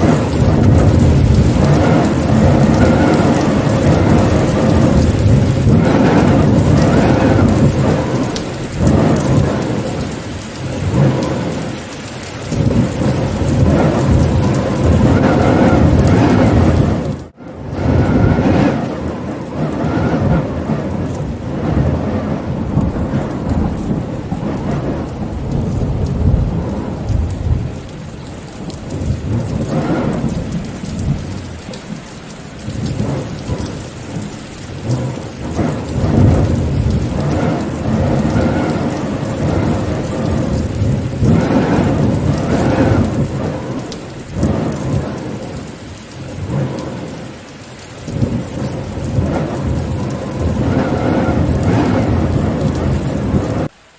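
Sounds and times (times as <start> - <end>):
deep rumbling: 0.0 - 47.4, 48.0 - 53.7
steady rain: 0.0 - 53.9
wind storm: 0.0 - 53.9.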